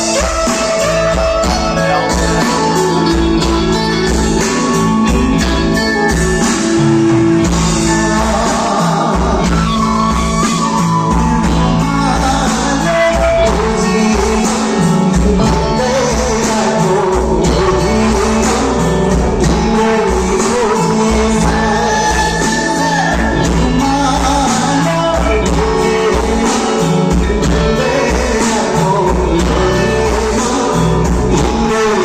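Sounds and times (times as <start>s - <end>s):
live band playing: 0.0s - 32.0s
person singing: 0.0s - 32.0s.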